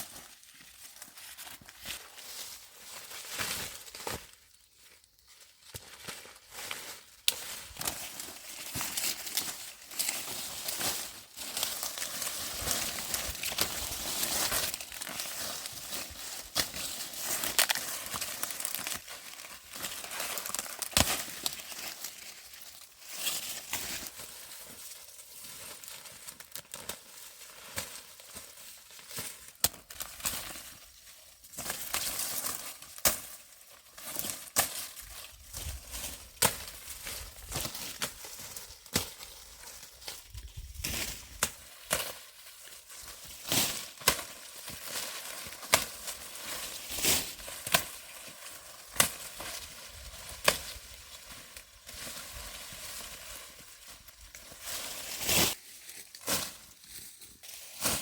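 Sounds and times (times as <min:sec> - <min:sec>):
dry corn leaves rustling: 0:00.0 - 0:58.0.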